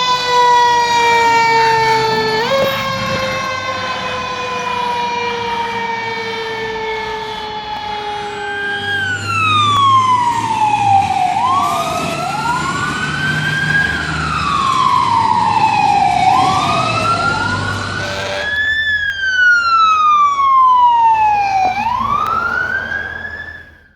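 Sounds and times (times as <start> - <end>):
fire truck siren wailing: 0.0 - 23.9
second siren wail: 0.0 - 23.9
truck engine rumble: 0.0 - 23.9.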